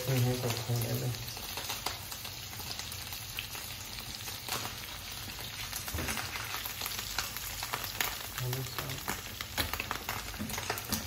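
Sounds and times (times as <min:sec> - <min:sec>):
chicken deep-frying in oil: 0:00.0 - 0:11.0
food sizzling in a pan: 0:00.0 - 0:11.0.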